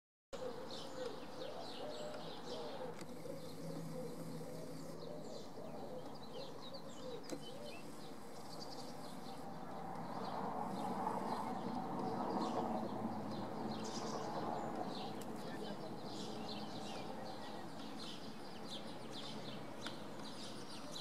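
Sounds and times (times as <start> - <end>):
small birds chirping: 0.4 - 21.0.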